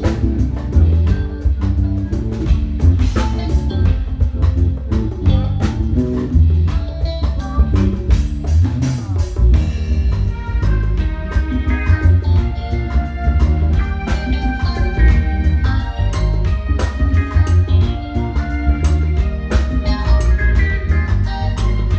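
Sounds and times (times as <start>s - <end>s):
live band playing: 0.0s - 21.9s.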